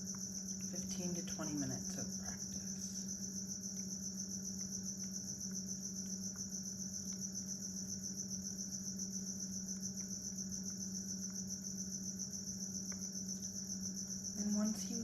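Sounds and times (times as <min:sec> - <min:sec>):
crickets trilling: 0:00.0 - 0:15.0
low steady hum: 0:00.0 - 0:15.0.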